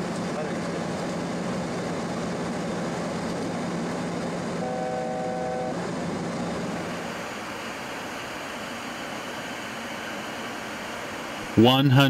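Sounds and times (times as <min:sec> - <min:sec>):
cockpit airflow rush and hum: 0:00.0 - 0:12.0.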